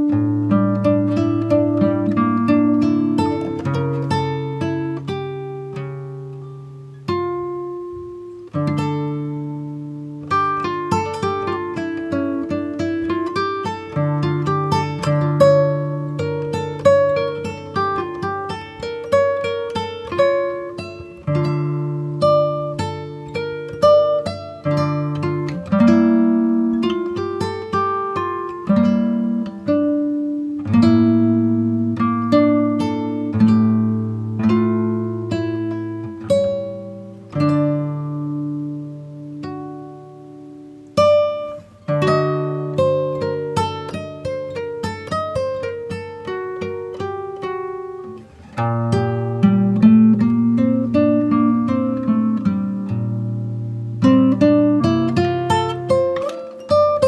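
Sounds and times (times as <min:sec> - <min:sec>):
plucked acoustic guitar: 0:00.0 - 0:57.0.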